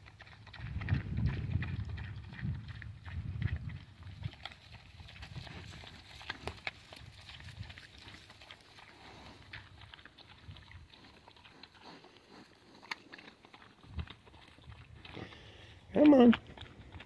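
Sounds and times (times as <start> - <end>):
pig crunching acorns: 0.0 - 17.0.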